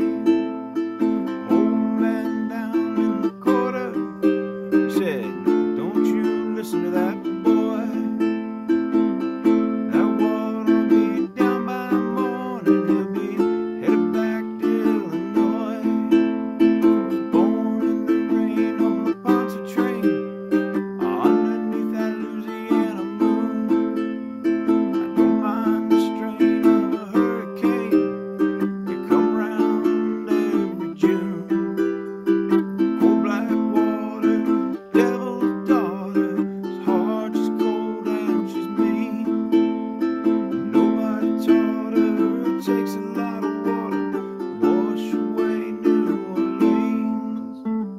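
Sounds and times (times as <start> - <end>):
ukulele strumming chords: 0.0 - 47.9.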